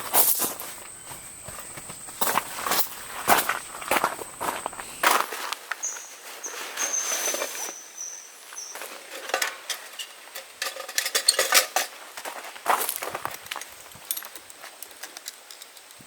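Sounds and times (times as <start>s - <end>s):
camping gear rustling and clicking: 0.0s - 7.8s, 8.6s - 16.0s.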